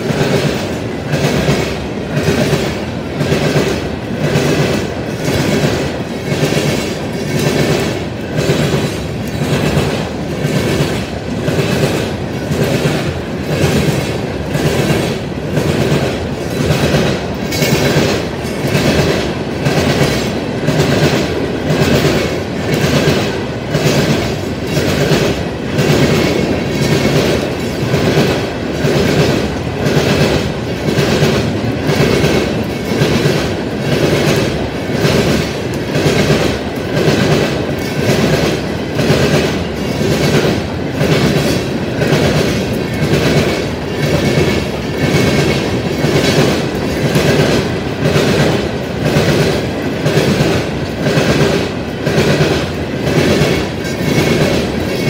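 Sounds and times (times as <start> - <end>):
train wheels clacking over rails: 0.0 - 55.0.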